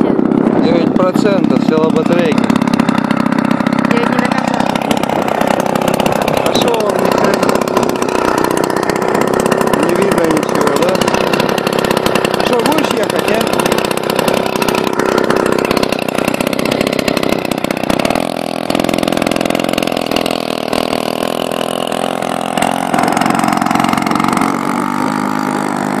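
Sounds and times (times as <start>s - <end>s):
two-stroke chainsaw engine running: 0.0s - 26.0s.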